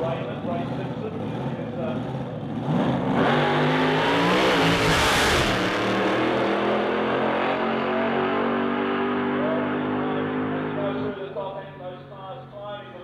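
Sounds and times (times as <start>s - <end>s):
dragster engine accelerating: 0.0s - 13.0s.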